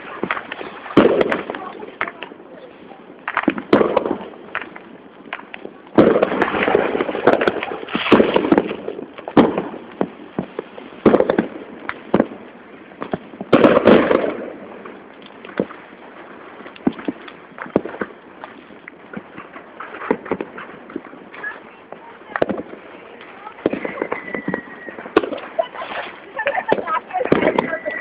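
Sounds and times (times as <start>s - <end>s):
fireworks banging and crackling: 0.0s - 28.0s.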